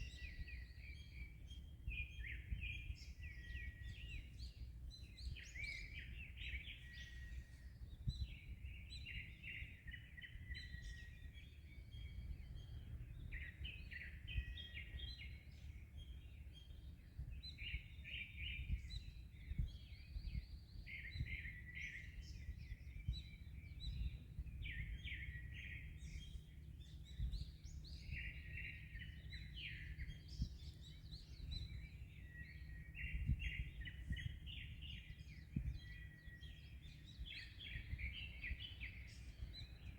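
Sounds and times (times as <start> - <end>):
low rumble of wind and sea: 0.0 - 39.9
small birds chirping: 0.0 - 39.9.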